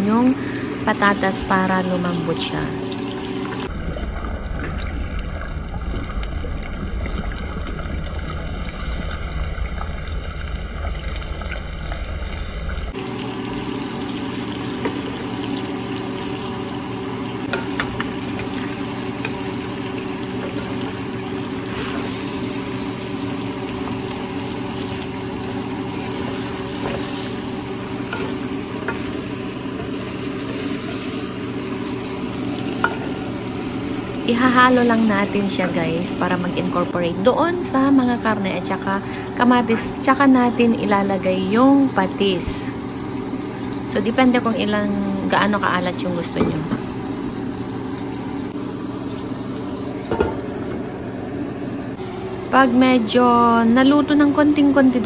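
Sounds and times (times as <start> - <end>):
food sizzling in a pan: 0.0 - 3.7, 12.9 - 55.0.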